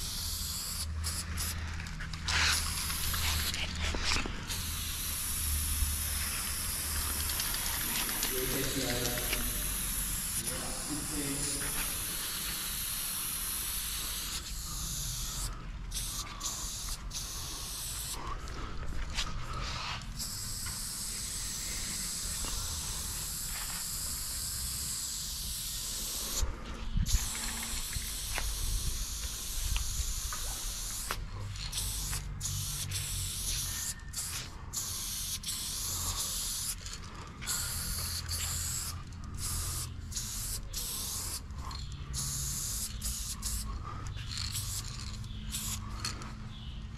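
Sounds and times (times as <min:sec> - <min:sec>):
spray paint can hissing: 0:00.0 - 0:18.3, 0:19.0 - 0:46.2.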